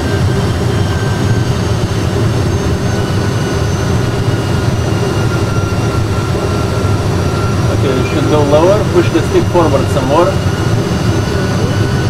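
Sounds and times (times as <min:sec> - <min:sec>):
low engine and airflow rumble: 0:00.0 - 0:12.0.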